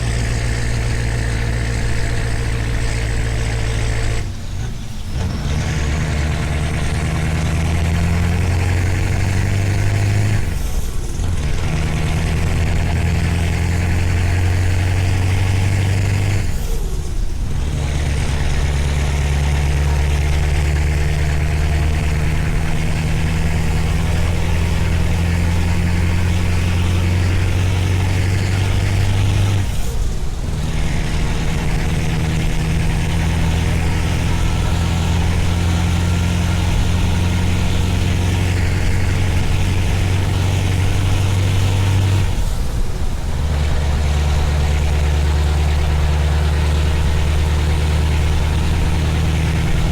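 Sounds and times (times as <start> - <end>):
truck engine running under load: 0.0 - 49.9.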